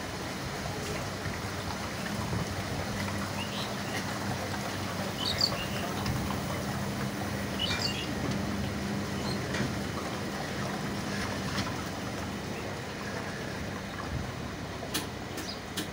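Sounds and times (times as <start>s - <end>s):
water swishing: 0.0s - 15.7s
train rumble and hum: 0.0s - 15.9s.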